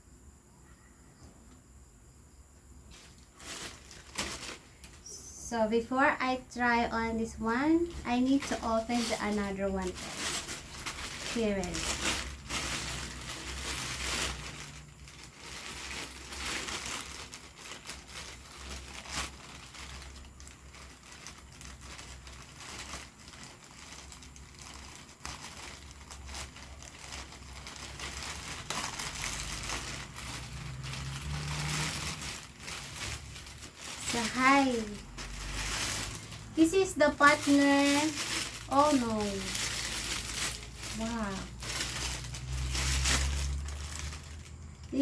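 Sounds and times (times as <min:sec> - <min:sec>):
packaging rustling and crinkling: 0:02.9 - 0:45.0.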